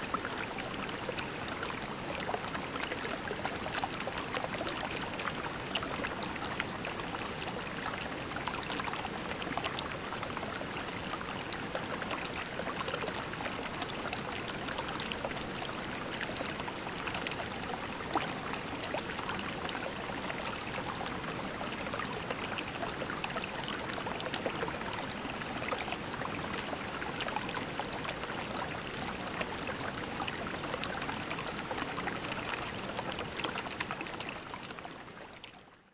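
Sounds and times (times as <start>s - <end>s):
creek water babbling over pebbles: 0.0s - 35.9s.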